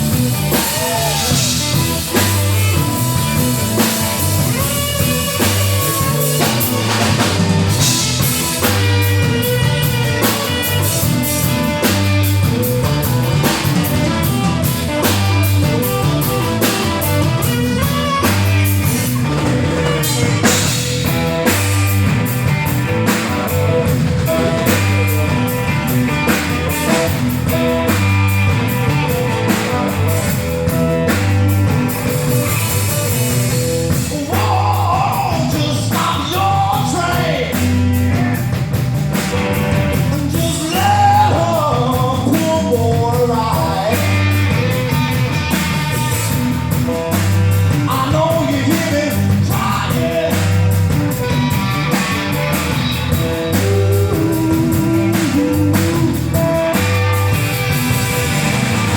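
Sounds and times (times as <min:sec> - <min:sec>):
bass line: 0:00.0 - 0:58.9
drum kit beat: 0:00.0 - 0:58.9
electric guitar: 0:00.0 - 0:58.9.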